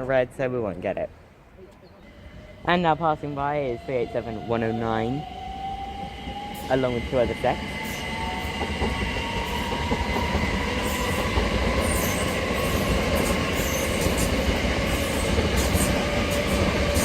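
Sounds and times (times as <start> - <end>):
train wheels rumbling on rail: 2.3 - 17.0.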